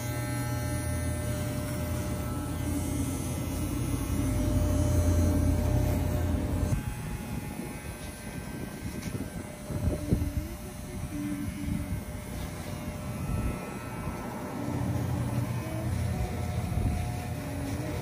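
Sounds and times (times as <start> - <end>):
electric clippers buzzing: 0.0 - 18.0.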